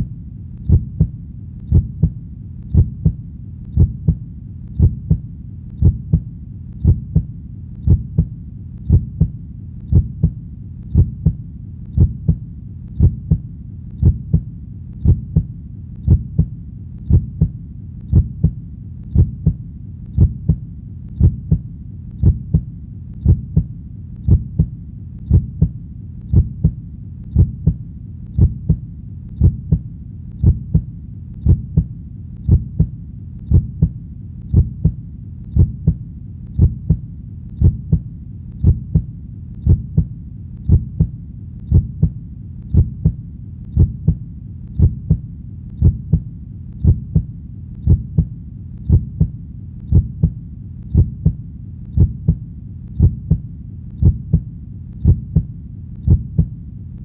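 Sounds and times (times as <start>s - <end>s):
heartbeat: 0.0s - 57.0s
low steady rumble: 0.0s - 57.0s.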